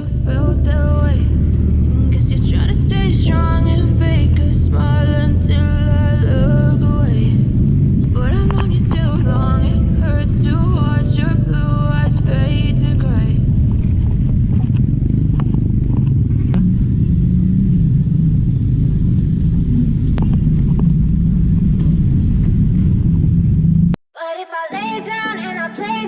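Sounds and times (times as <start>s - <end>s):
motorcycle engine rumble: 0.0s - 24.0s
wind buffeting microphone: 0.0s - 24.0s.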